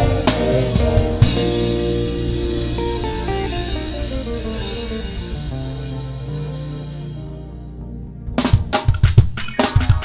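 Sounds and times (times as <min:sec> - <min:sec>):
electric guitar picking notes: 0:00.0 - 0:08.8.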